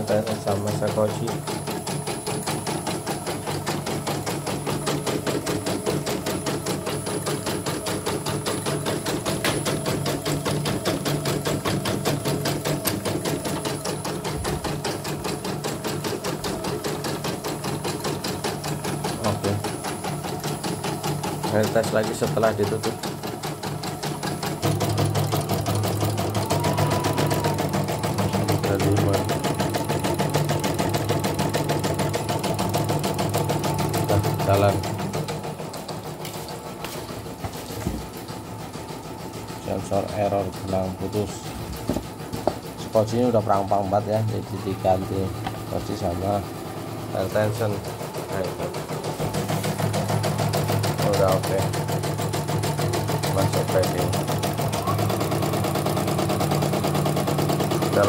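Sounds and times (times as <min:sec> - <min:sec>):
embroidery machine needle clattering: 0:00.0 - 0:58.0
motor hum: 0:00.0 - 0:58.0.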